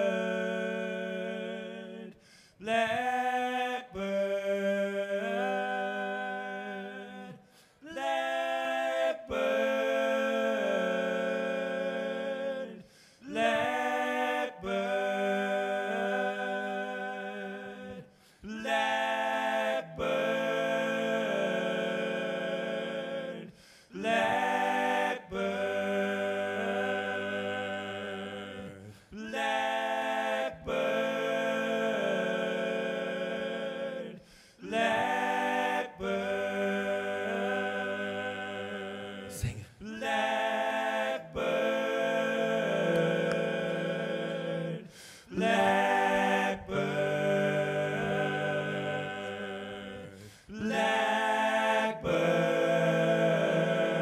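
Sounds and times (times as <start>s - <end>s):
looped a cappella chord: 0.0s - 54.0s.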